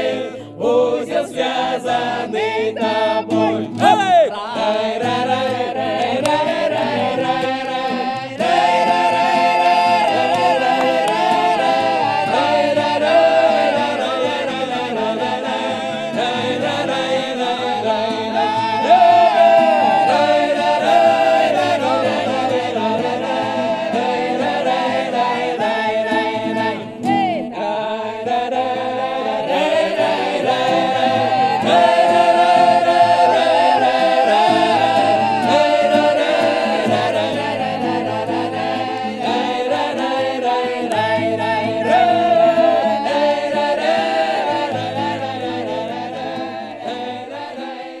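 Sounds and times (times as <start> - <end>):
vocal ensemble singing in harmony: 0.0 - 48.0.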